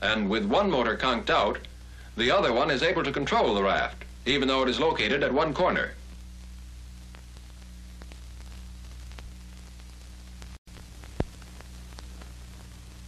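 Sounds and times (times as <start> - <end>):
film soundtrack hiss and hum: 0.0 - 13.0
faint crackles: 0.9 - 13.0.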